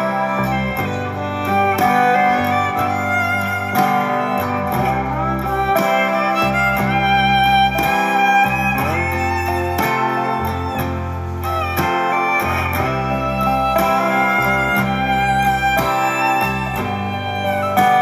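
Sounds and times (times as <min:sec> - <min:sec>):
instrumental background music: 0:00.0 - 0:18.0.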